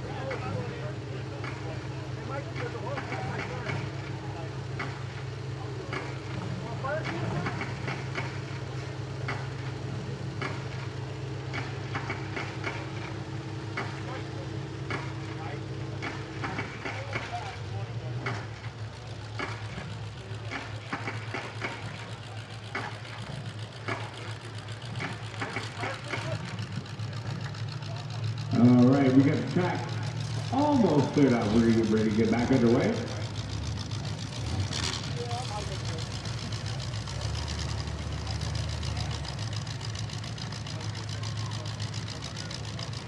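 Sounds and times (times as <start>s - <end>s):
car engines idling: 0.0s - 43.0s.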